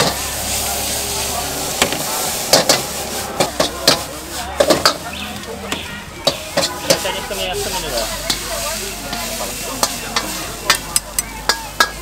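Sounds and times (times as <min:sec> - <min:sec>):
ladle clanking against wok: 0:00.0 - 0:12.0
ladle scraping wok: 0:00.0 - 0:12.0
noodles sizzling in a wok: 0:00.0 - 0:12.0.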